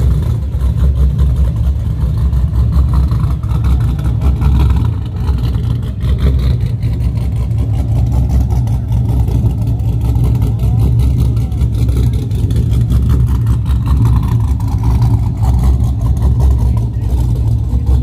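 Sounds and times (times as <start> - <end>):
deep car exhaust rumble: 0.0 - 18.0.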